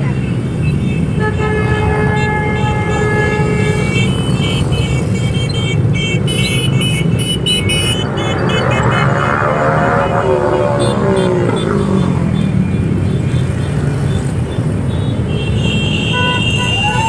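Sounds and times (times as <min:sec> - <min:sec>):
motorcycle engines rumbling: 0:00.0 - 0:17.0
motorcycle horns tooting: 0:00.0 - 0:17.0.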